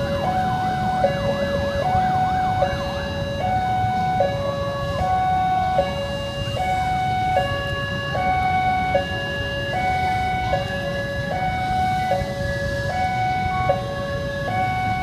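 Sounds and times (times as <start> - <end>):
two-tone warning siren: 0.0 - 15.0.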